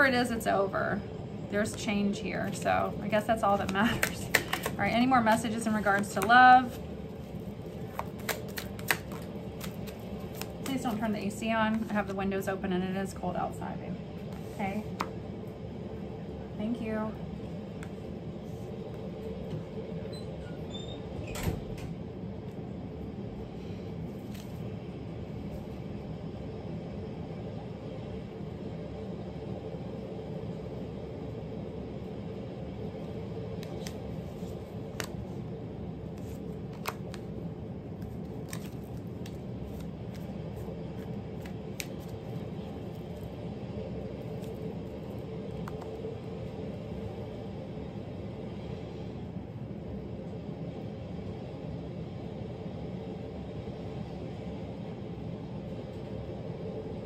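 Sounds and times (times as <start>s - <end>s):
low room hum: 0.0s - 57.0s.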